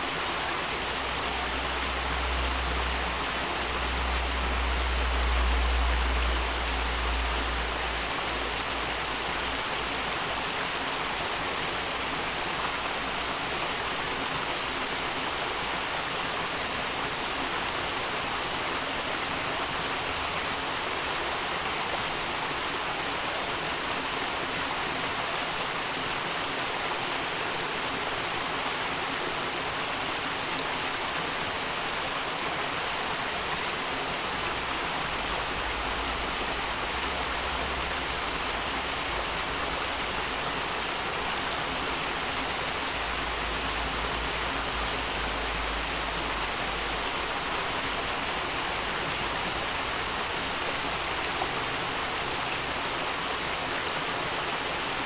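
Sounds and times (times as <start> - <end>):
brook running: 0.0 - 55.0.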